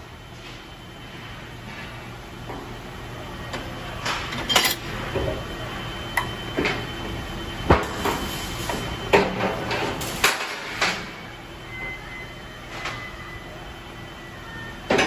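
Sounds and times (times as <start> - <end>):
plate roll machine humming: 0.0 - 15.0.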